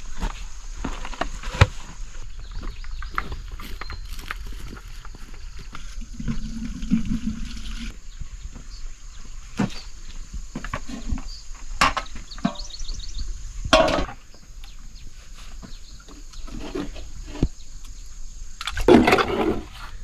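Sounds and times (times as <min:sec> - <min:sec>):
footsteps on dirt: 0:00.0 - 0:13.2, 0:14.2 - 0:17.6.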